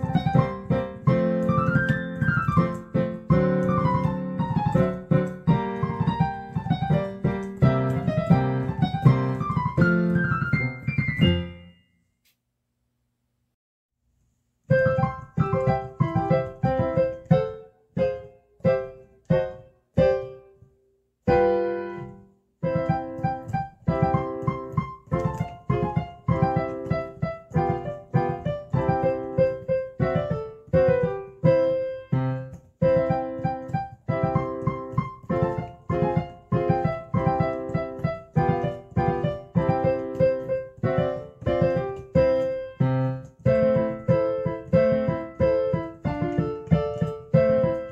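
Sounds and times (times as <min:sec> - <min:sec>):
piano music: 0:00.0 - 0:12.0, 0:14.7 - 0:47.9.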